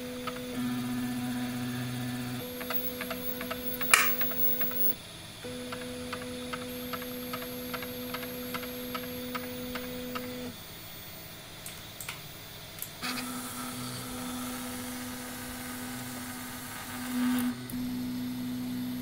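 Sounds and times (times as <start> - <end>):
printer motors humming: 0.0 - 10.7, 13.0 - 19.0.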